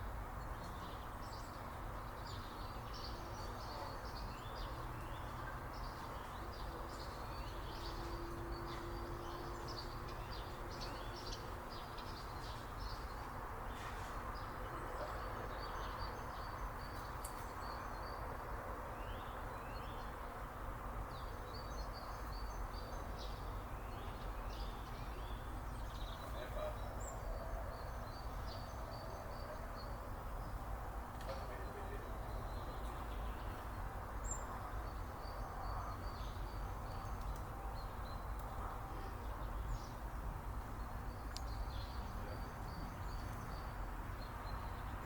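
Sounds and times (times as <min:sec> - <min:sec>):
small birds chirping: 0:00.4 - 0:20.2, 0:21.1 - 0:45.0.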